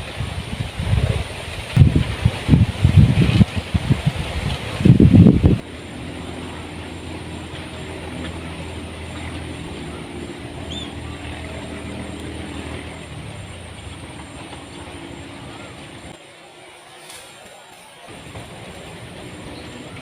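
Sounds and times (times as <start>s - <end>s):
strong wind on microphone: 0.0s - 16.2s.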